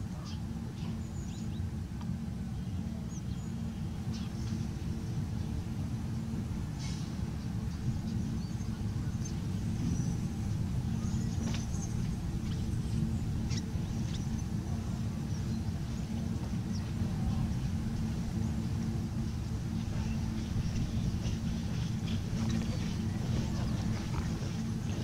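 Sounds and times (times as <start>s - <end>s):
low mechanical hum and rumble: 0.0s - 25.0s.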